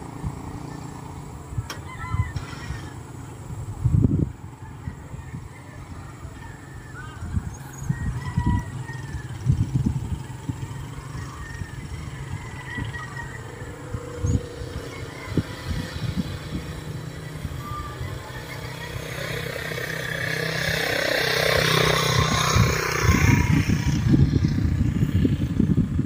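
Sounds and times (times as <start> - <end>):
motorcycle running: 0.0 - 26.0
wind buffeting microphone: 0.0 - 26.0.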